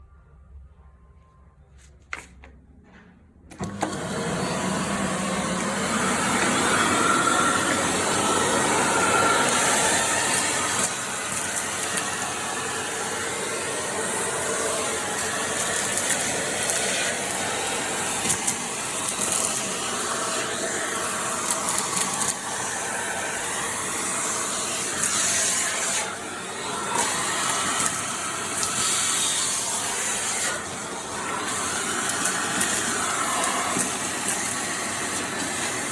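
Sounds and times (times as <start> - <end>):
vacuum cleaner running: 3.5 - 35.9.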